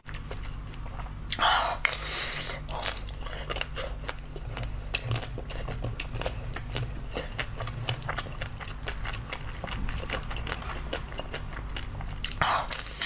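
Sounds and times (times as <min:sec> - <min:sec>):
crunching and chewing ice cream bar: 0:00.0 - 0:13.0.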